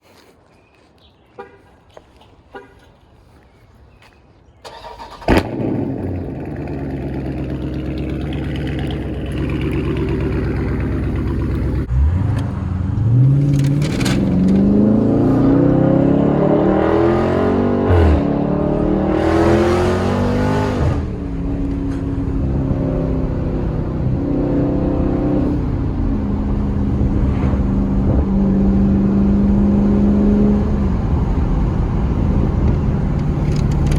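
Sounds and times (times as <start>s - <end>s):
car engine starting and idling: 4.6s - 33.9s
engine revving: 4.7s - 33.9s.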